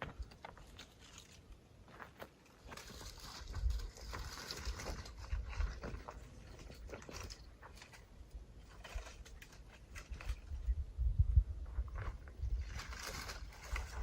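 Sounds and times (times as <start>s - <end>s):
branches crunching and rustling: 0.0s - 10.8s, 12.0s - 14.0s.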